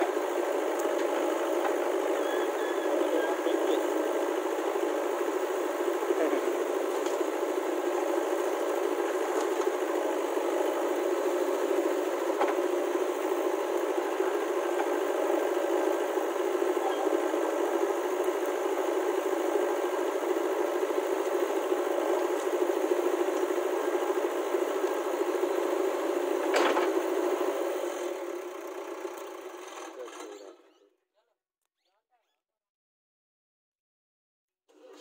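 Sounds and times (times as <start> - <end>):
diesel engine running: 0.0 - 30.5.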